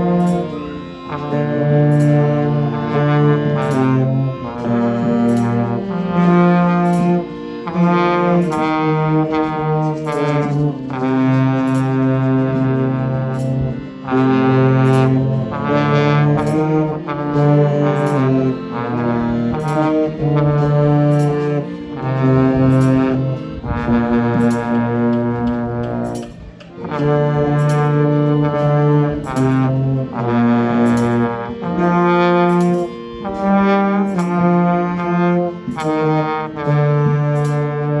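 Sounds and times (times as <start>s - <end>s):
brass music led by trombone: 0.0s - 38.0s.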